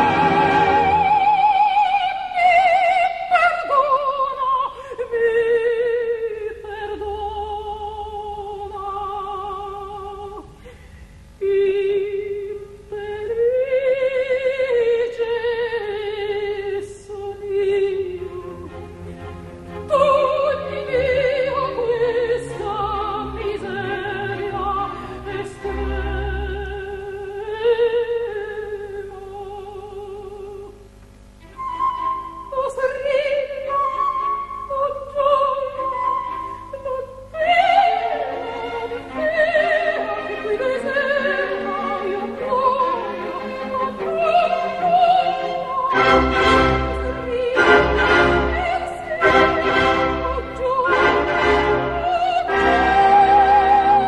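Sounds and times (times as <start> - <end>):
orchestra: 0.0 - 10.3, 12.9 - 28.7, 31.3 - 54.0
soprano singing: 0.0 - 10.6, 11.4 - 30.8, 31.4 - 54.0.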